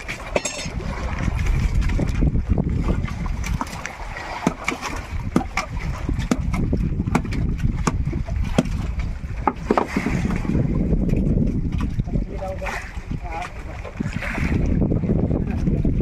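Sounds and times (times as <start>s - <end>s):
boat engine low rumble: 0.0s - 16.0s
wind on microphone: 0.0s - 16.0s.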